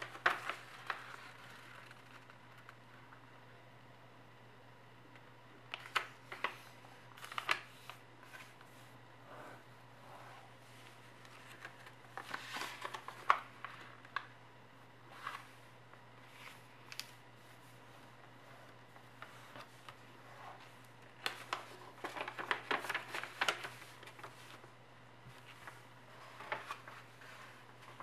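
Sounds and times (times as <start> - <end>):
paper rustling and creasing: 0.0 - 2.8, 5.7 - 8.9, 10.7 - 14.3, 15.1 - 28.0
faint low hum: 0.0 - 28.0.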